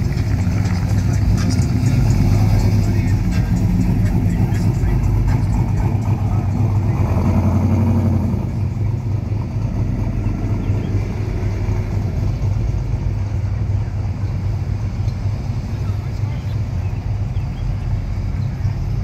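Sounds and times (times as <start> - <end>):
cars driving slowly past: 0.0 - 19.0.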